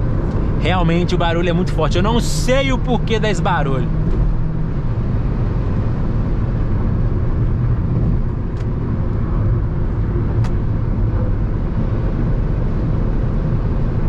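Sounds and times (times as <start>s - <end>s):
wind and road noise in car: 0.0s - 14.0s.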